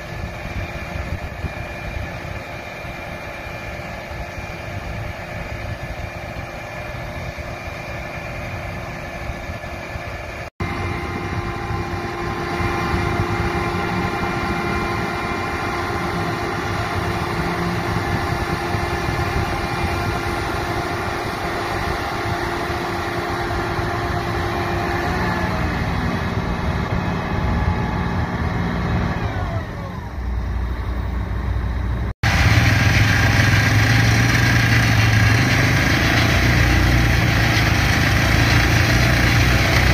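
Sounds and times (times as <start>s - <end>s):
combine harvester engine rumble: 0.0s - 39.9s
whining drive tones: 0.0s - 39.9s.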